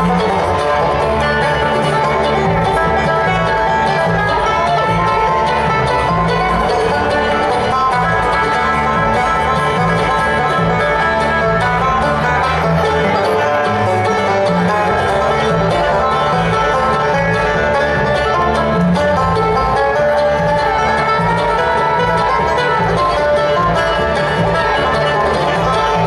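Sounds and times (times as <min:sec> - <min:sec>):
banjo picking lead: 0:00.0 - 0:26.0
bluegrass band playing: 0:00.0 - 0:26.0.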